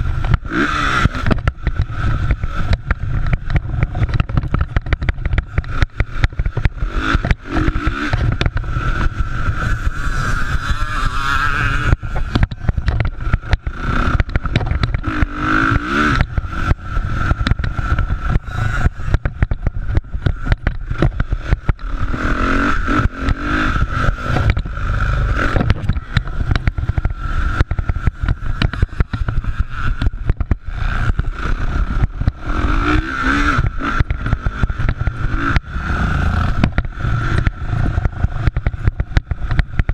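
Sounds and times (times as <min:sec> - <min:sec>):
constant rumble and crackle: 0:00.0 - 0:39.9
motocross bikes passing: 0:00.0 - 0:39.9.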